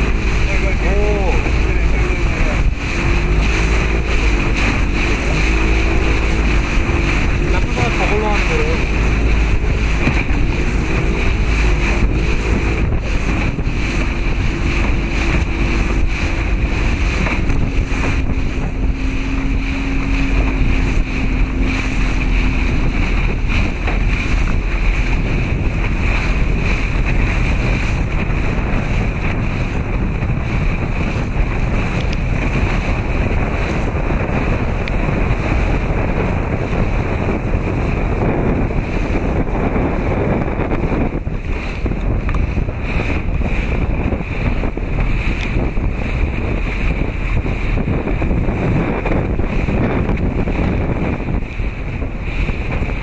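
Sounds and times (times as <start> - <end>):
sea water rushing: 0.0 - 53.0
wind on microphone: 0.0 - 53.0.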